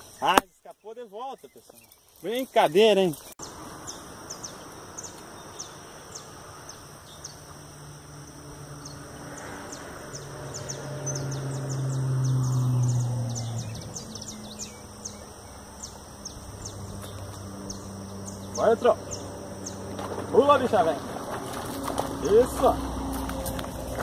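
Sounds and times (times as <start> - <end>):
insects chirping: 0.0 - 24.0
vehicle engine passing: 3.4 - 24.0.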